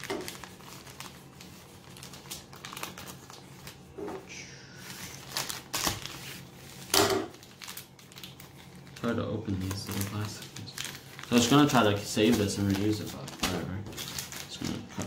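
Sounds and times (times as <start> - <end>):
plastic mailer bag crinkling: 0.0 - 3.9, 4.8 - 15.0.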